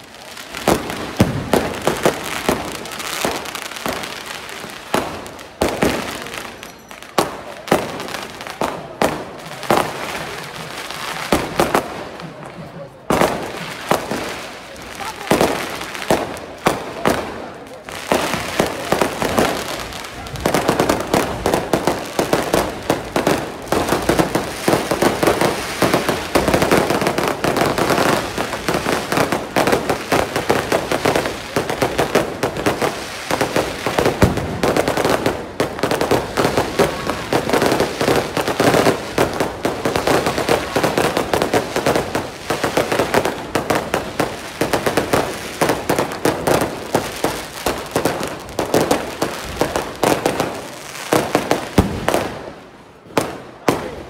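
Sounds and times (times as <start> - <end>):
firecrackers crackling rapidly: 0.0 - 54.0.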